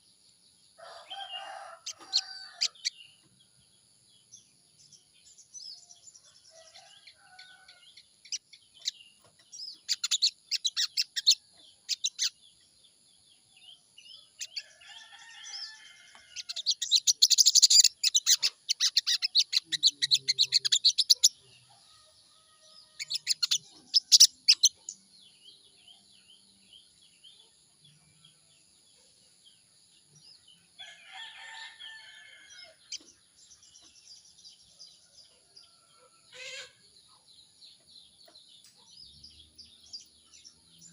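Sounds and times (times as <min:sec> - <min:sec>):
songbird chattering and warbling: 0:00.0 - 0:21.8, 0:22.7 - 0:40.9.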